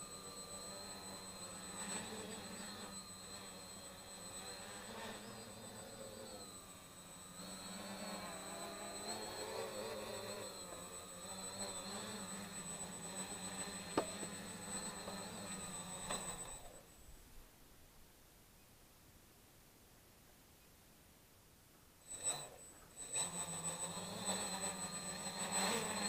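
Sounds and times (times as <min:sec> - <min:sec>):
drone motors buzzing: 0:00.0 - 0:17.1, 0:22.0 - 0:26.0.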